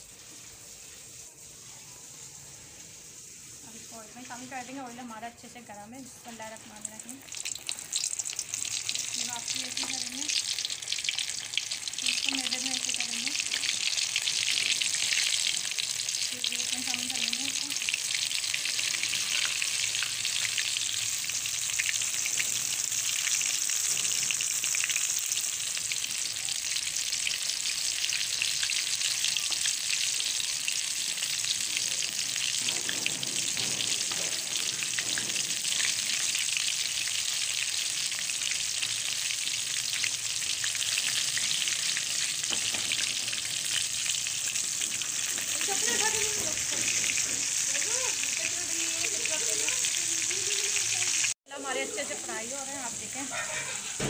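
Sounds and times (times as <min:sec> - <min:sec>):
hot oil sizzling and crackling: 0:00.0 - 0:54.0.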